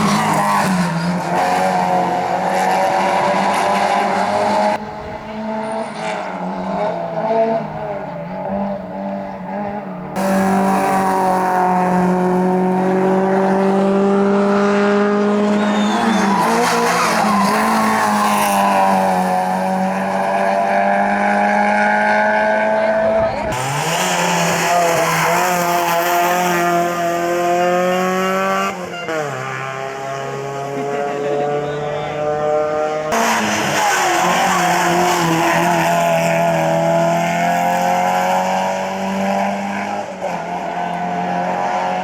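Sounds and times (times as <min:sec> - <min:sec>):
racing car engines at high revs: 0:00.0 - 0:42.0.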